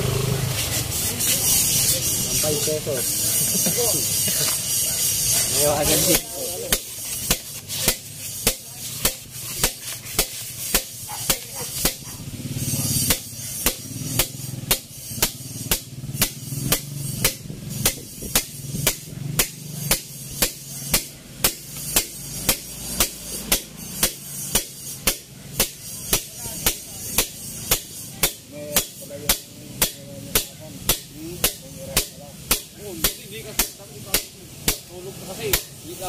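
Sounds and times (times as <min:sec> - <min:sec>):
hammer striking metal: 0:01.0 - 0:36.0.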